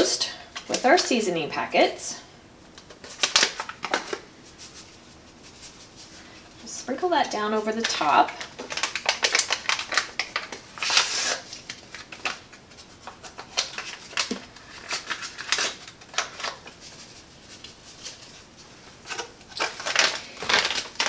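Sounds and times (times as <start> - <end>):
paper packets rustling: 2.8 - 6.4, 7.2 - 21.0.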